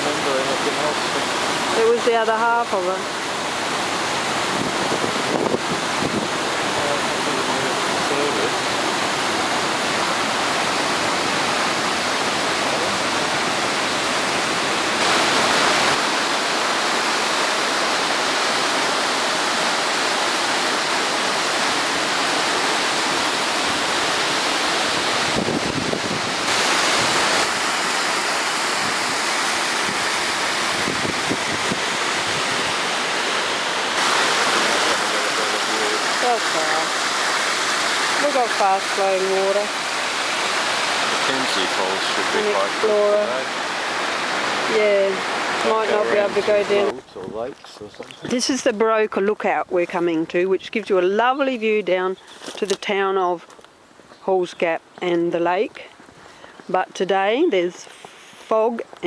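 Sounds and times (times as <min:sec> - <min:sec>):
waterfall and creek rushing: 0:00.0 - 0:59.0.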